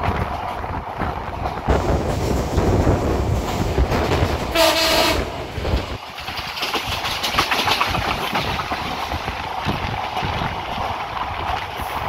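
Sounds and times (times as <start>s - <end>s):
train rumble: 0.0s - 12.0s
train wheels clacking on rail joints: 0.0s - 12.0s.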